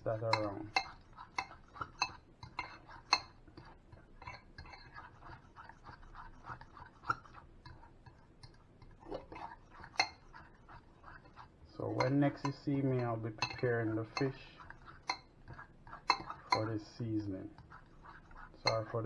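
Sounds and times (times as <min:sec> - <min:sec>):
fork beating eggs in a bowl: 0:00.0 - 0:19.0.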